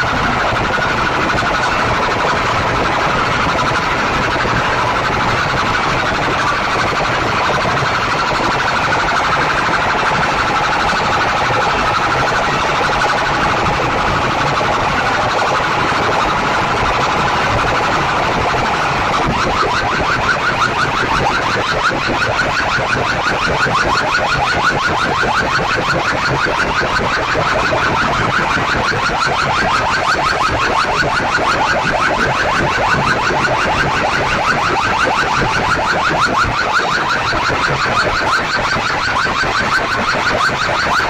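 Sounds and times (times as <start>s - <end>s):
fast pulsing pattern: 0.0s - 41.0s
harsh blaring loudspeakers: 0.0s - 41.0s.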